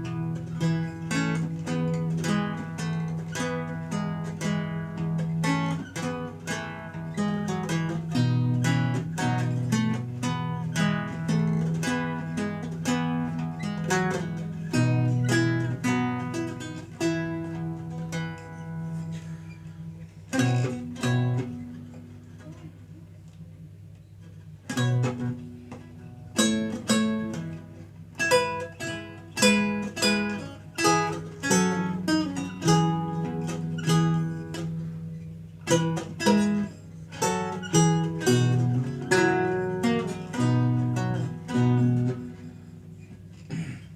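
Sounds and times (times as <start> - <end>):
solo lute playing: 0.0 - 22.7, 24.7 - 43.4.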